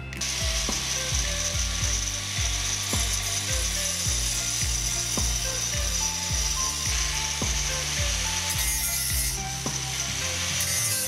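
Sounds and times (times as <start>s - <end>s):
angle grinder cutting steel: 0.0s - 11.0s
background music with steady beat: 0.0s - 11.0s.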